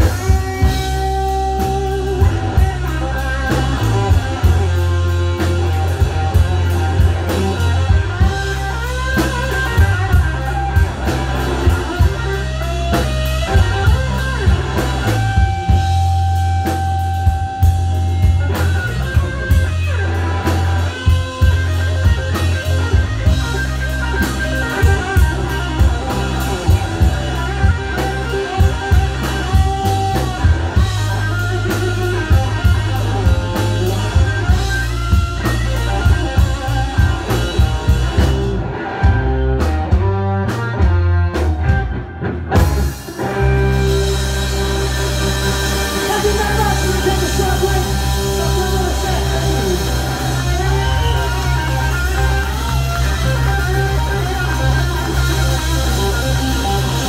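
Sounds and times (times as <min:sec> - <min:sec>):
blues-rock band playing: 0:00.0 - 0:57.0
electric guitar long held note: 0:00.0 - 0:57.0.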